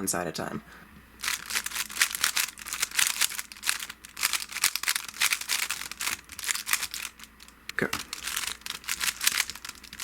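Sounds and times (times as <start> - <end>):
puzzle cube plastic clicks: 1.2 - 10.0.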